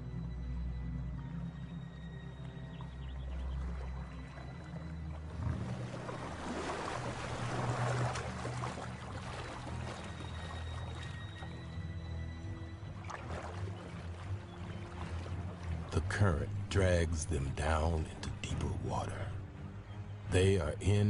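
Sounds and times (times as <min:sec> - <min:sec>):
low music drone: 0:00.0 - 0:21.0
river water splashing: 0:01.2 - 0:21.0.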